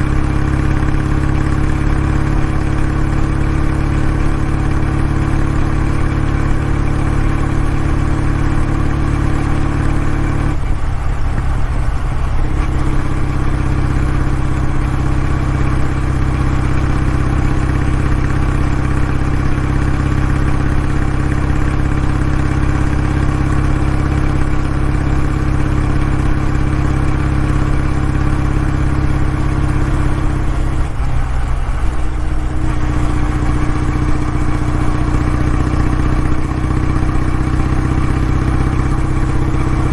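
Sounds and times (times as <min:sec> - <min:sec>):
motorcycle exhaust running: 0:00.0 - 0:39.9.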